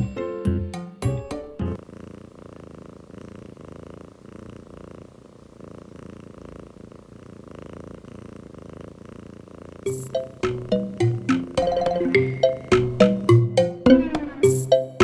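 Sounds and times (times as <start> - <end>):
cat purring: 1.2 - 14.6.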